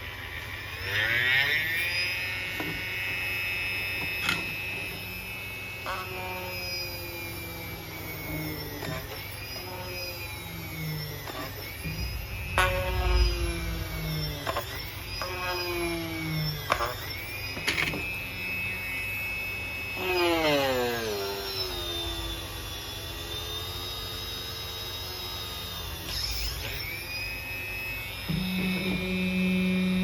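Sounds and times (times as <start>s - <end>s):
drill motor whining: 0.0s - 30.0s.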